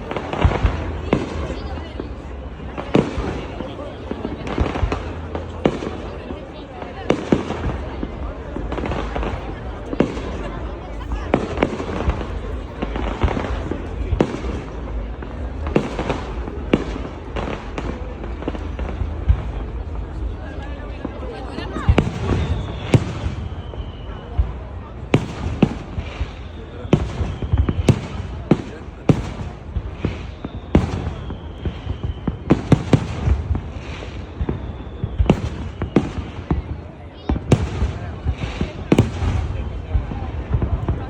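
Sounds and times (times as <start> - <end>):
fireworks crackling: 0.0 - 41.0
sharp firework bangs: 7.0 - 41.0.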